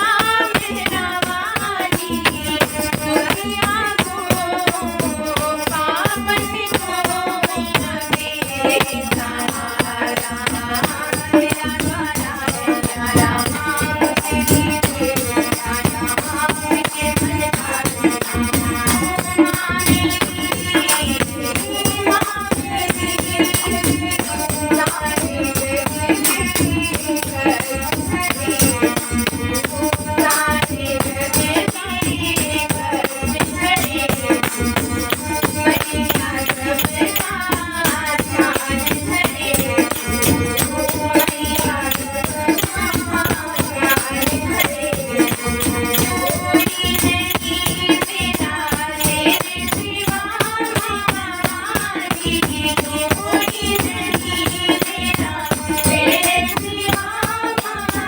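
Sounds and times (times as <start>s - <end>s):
devotional melodic singing: 0.0s - 58.0s
shaken rattle rhythm: 0.0s - 58.0s.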